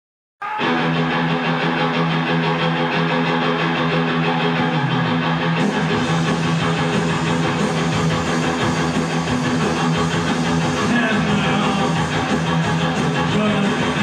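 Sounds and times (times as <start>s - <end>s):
rock music with electric guitar: 0.5s - 14.0s.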